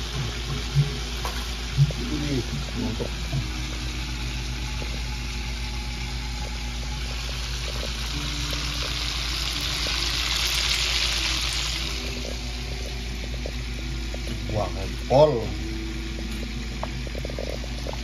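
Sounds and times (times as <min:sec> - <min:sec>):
fish frying in hot oil: 0:00.0 - 0:18.0
steady low hum: 0:00.0 - 0:18.0.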